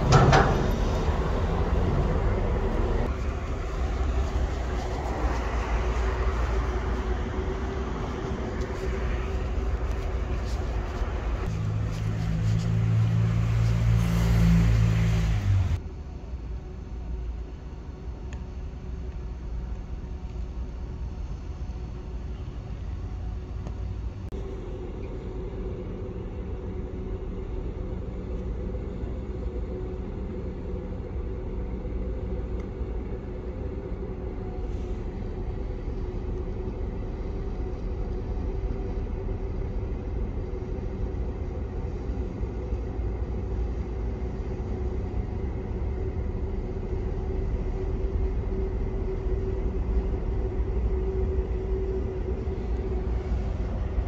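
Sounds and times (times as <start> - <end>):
ship engines rumbling: 0.0 - 15.8, 20.0 - 54.0.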